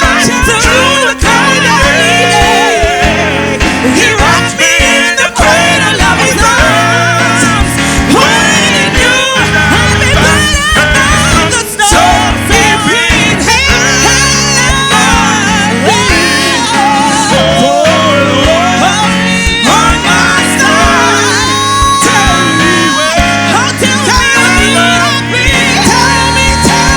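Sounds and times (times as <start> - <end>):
instrumental accompaniment: 0.0 - 26.9
person singing: 0.0 - 26.9.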